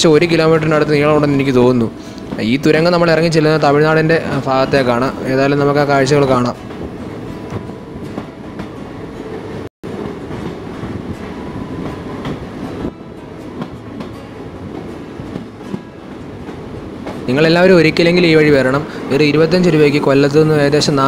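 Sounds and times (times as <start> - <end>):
train rumble in tunnel: 0.0 - 21.0
wheels clattering on rail joints: 1.4 - 20.4.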